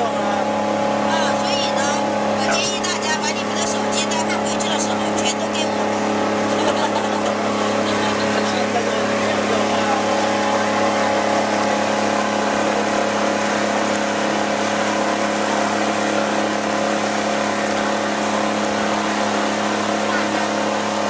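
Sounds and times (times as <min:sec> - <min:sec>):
vehicle engine running steadily: 0:00.0 - 0:21.0.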